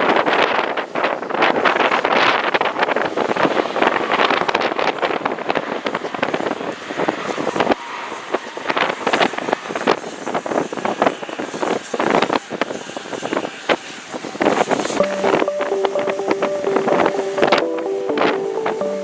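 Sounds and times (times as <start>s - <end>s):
jet engines on runway: 0.0s - 19.0s
wind buffeting microphone: 0.0s - 19.0s.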